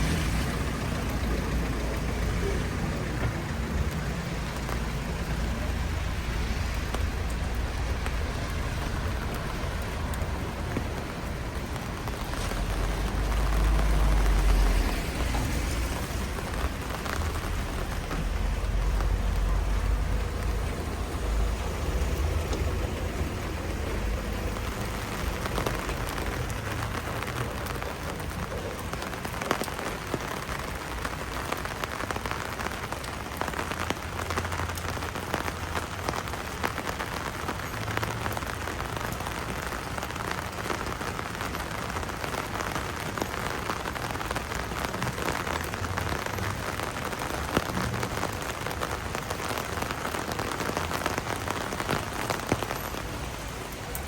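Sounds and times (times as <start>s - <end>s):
rain drops ticking: 0.0s - 54.0s.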